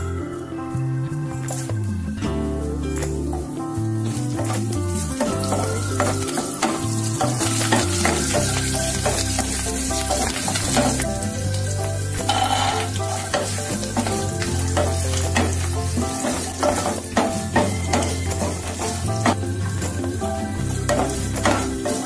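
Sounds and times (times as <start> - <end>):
background music: 0.0 - 22.0
hot oil sizzling: 1.6 - 22.0
spatula stirring and knocking pan: 4.1 - 22.0.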